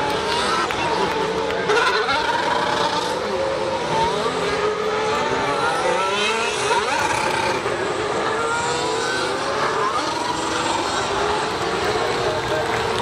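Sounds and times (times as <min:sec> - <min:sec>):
racing cars passing: 0:00.0 - 0:13.0.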